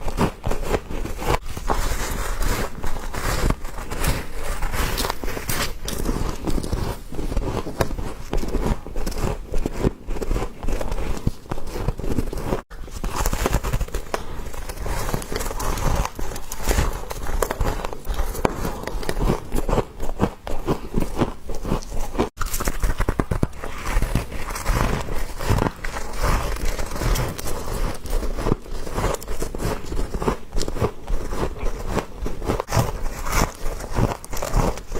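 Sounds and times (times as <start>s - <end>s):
frost being chewed and crunching: 0.0s - 34.9s.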